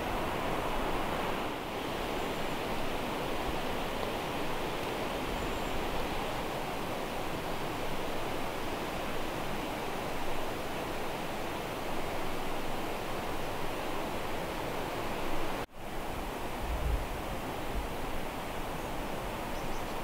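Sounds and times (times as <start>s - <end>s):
steady rushing outdoor noise: 0.0s - 20.0s.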